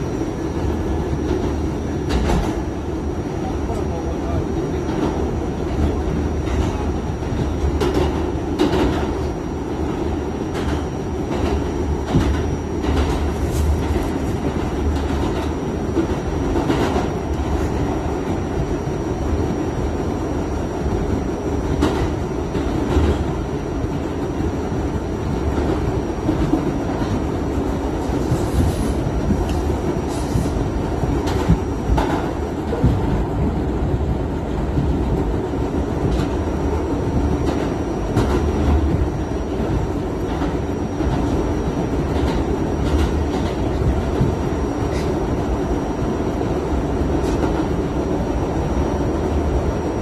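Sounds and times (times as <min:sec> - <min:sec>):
subway car rumbling: 0:00.0 - 0:50.0.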